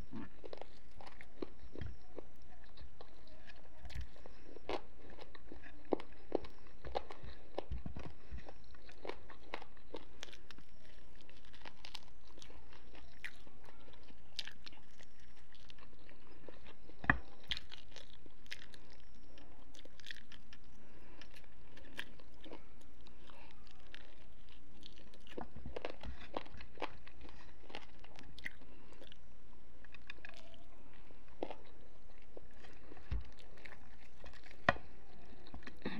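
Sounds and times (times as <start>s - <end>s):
person chewing crunchy food: 0.0s - 35.9s
steady low hum: 0.0s - 35.9s.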